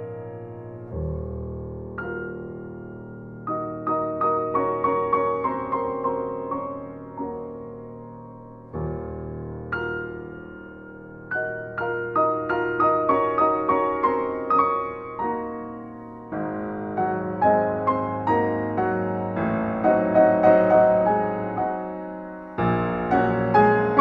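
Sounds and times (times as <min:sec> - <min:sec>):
solo piano melody: 0:00.0 - 0:24.0.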